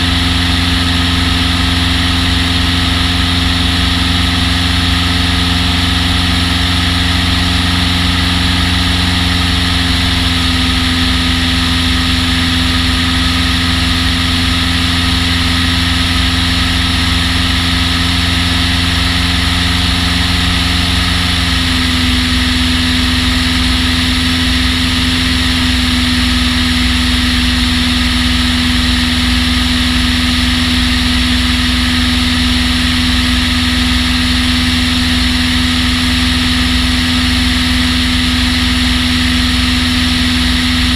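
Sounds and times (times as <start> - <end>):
aircraft piston engine and propeller: 0.0 - 40.9.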